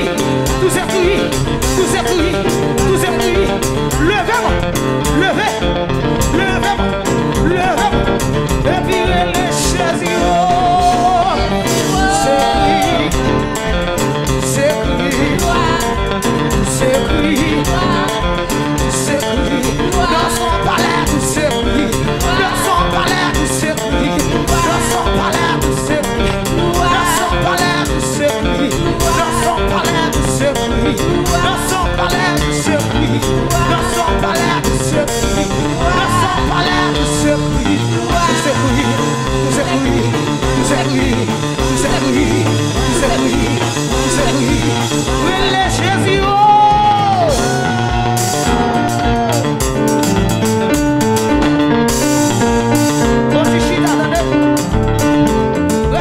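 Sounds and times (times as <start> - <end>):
drum kit with cymbals: 0.0 - 56.0
electric bass: 0.0 - 56.0
keyboard: 0.0 - 56.0.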